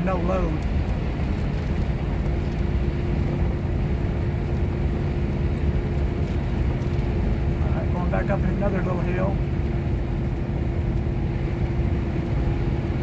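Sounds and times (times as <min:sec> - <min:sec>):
engine and road noise in cab: 0:00.0 - 0:13.0.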